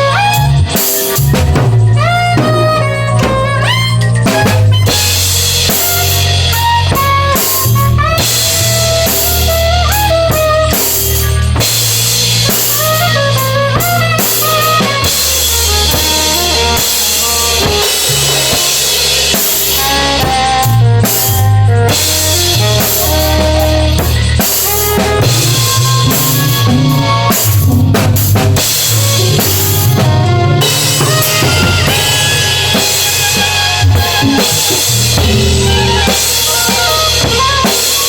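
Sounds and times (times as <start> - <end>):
bass notes: 0.0 - 38.0
bending melody line: 0.0 - 38.0
drum kit beat: 0.0 - 38.0.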